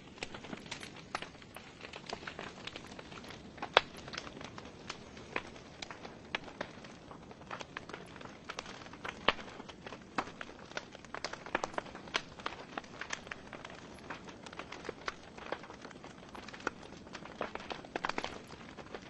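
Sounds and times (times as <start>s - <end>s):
burning logs crackling and popping: 0.0s - 19.0s
soft hiss of fire: 0.0s - 19.0s.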